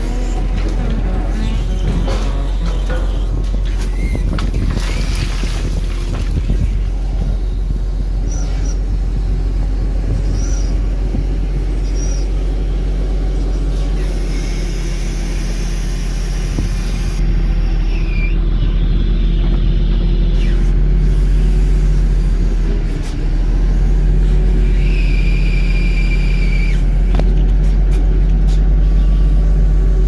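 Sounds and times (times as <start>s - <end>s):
diesel truck engine droning: 0.0s - 30.0s.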